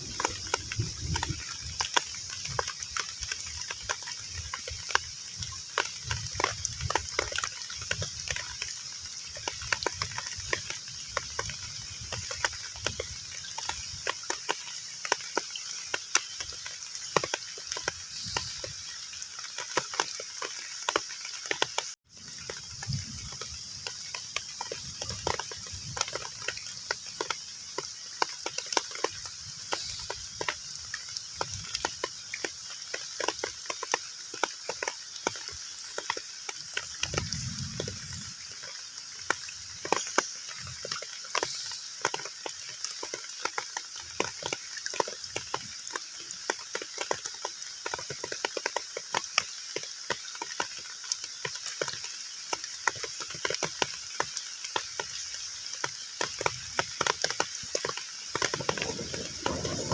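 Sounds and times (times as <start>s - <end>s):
heavy rain on pond: 0.0s - 59.9s.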